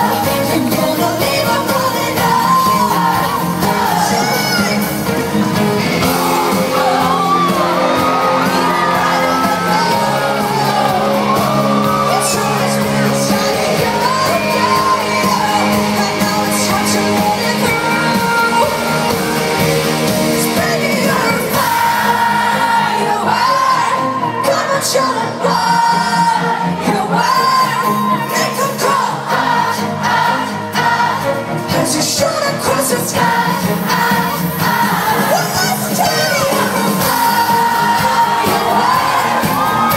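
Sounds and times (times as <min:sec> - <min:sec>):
person singing: 0:00.0 - 0:31.0, 0:31.6 - 0:39.9
live pop music: 0:00.0 - 0:39.9
crowd shouting and whooping: 0:01.4 - 0:31.6, 0:32.2 - 0:39.9.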